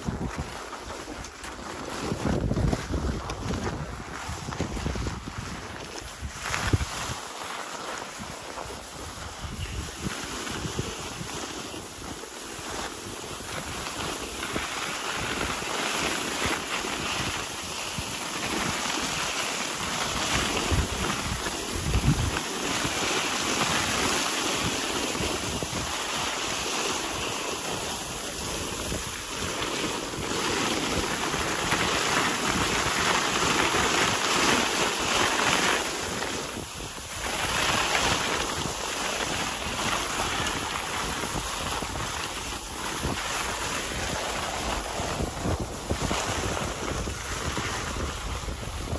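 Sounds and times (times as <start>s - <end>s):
skis hissing on snow: 0.0s - 48.9s
wind rushing over microphone: 0.0s - 48.9s.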